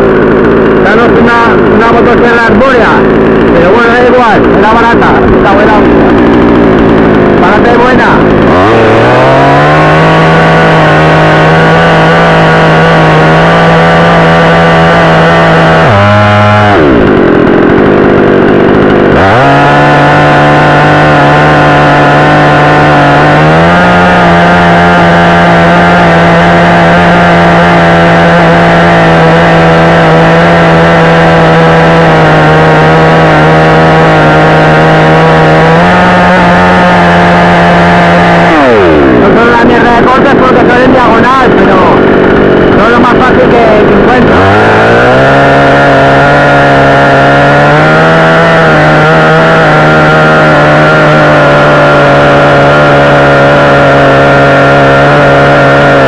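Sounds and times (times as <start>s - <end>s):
chainsaw cutting at full throttle: 0.0s - 56.0s.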